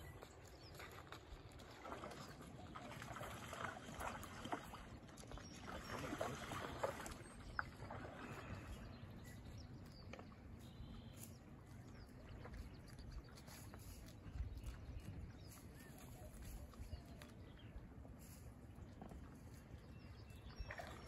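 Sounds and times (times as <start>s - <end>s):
small water splashes: 0.0s - 21.0s
water lapping around kayak: 0.0s - 21.0s.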